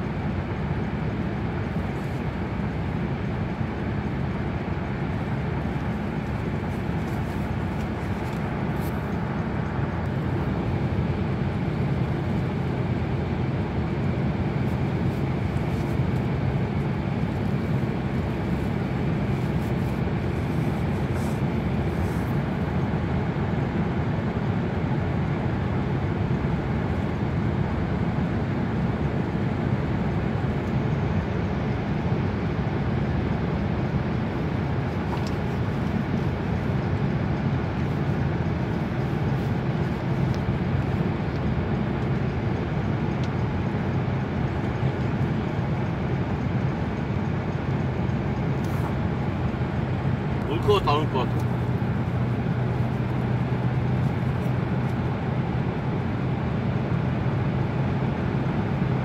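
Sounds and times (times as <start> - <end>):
car driving through tunnel: 0.0 - 59.0.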